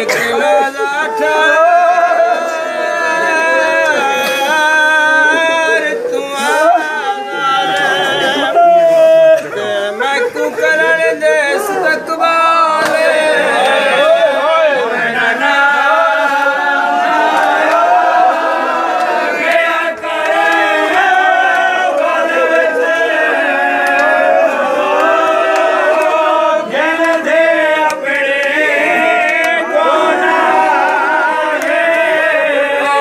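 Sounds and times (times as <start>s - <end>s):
group chanting a lament: 0.0s - 33.0s.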